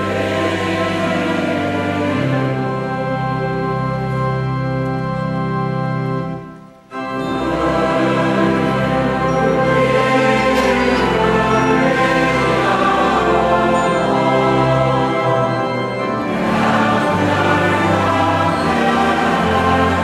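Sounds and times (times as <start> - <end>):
congregation and choir singing hymn: 0.0 - 20.0
instrumental accompaniment chords: 0.0 - 20.0.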